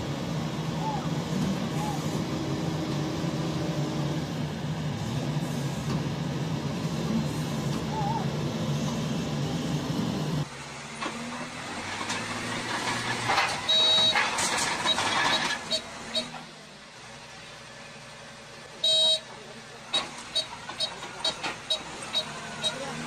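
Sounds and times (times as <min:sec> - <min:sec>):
bulldozer noisy bursts: 0:00.0 - 0:23.0
diesel engines humming: 0:00.0 - 0:23.0.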